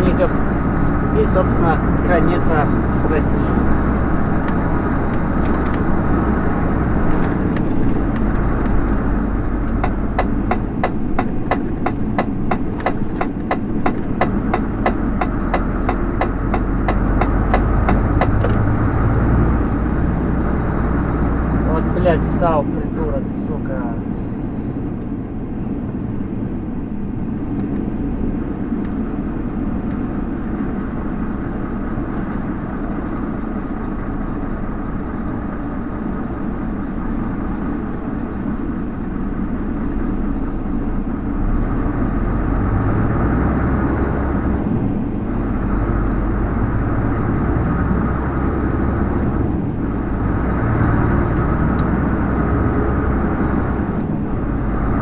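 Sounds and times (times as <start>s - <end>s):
truck diesel engine and road noise: 0.0s - 55.0s.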